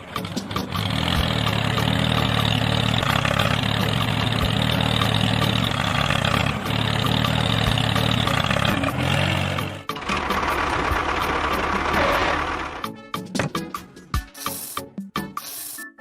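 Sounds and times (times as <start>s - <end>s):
engine-like hum with buzzing: 0.0s - 13.7s.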